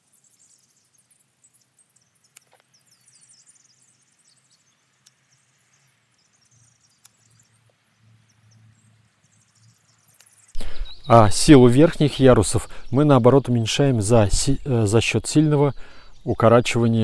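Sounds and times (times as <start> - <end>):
faint high-pitched chirping: 0.0 - 17.0.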